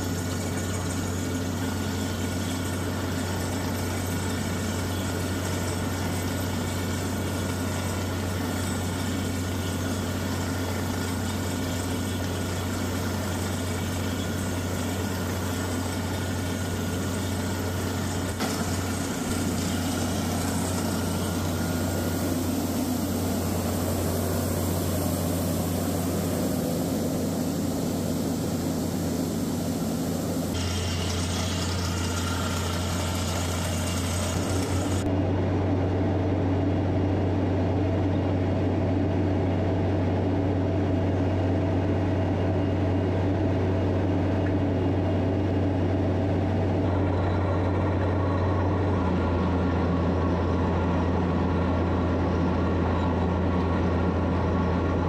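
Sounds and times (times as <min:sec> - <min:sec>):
diesel engine low hum: 0:00.0 - 0:55.0.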